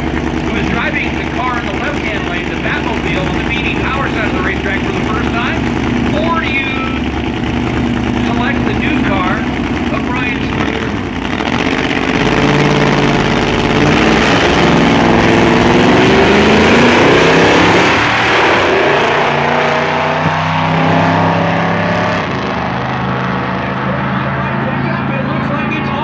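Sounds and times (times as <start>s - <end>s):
diesel engines accelerating hard: 0.0s - 26.0s.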